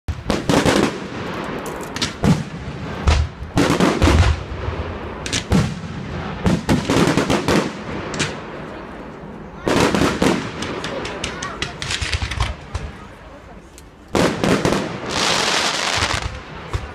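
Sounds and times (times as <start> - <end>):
deep fireworks booms: 0.1 - 8.9, 9.6 - 13.2, 14.1 - 16.9
fireworks bangs and crackles: 0.1 - 16.9.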